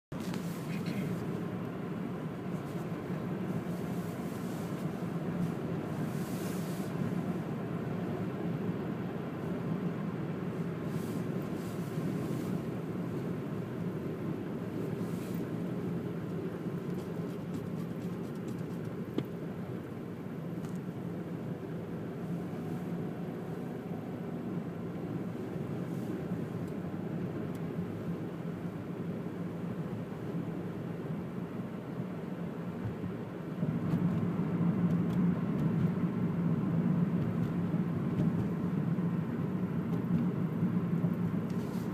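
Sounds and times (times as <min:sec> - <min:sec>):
car cabin road and engine noise: 0:00.1 - 0:41.9.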